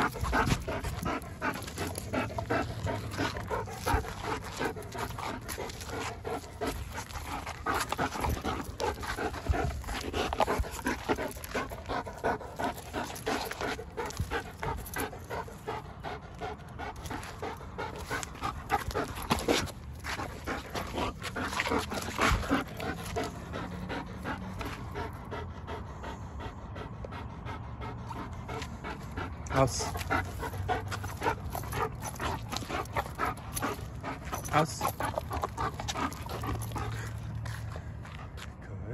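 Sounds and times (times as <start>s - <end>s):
dog panting quickly: 0.0s - 38.6s.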